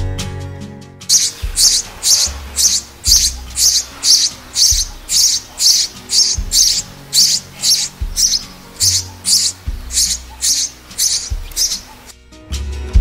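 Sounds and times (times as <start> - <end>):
music with low bass notes: 0.0 - 13.0
sparrow chirping: 1.0 - 12.2.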